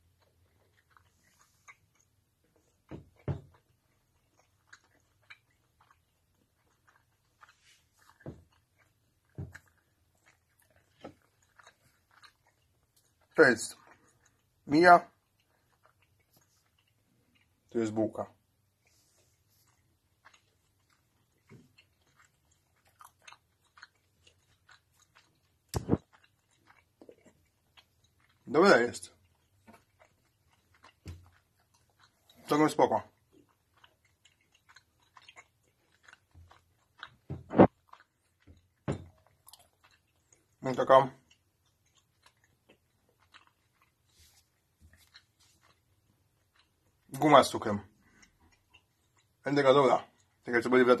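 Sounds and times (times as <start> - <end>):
person chewing gum: 0.0 - 51.0.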